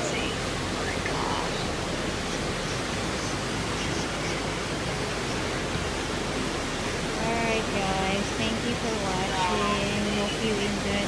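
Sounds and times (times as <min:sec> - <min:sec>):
waterfall rushing: 0:00.0 - 0:11.0
whitewater churning: 0:00.0 - 0:11.0.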